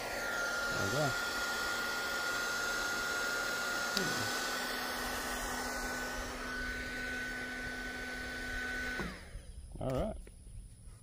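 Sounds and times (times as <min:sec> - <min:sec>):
heat gun motor whine: 0:00.0 - 0:09.7
fan blowing air: 0:00.0 - 0:10.9.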